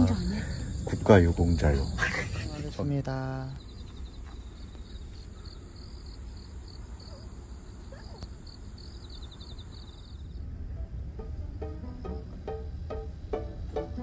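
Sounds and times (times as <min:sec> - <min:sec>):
low rumble: 0:00.0 - 0:06.2, 0:08.6 - 0:13.8
crickets chirping: 0:00.0 - 0:14.0.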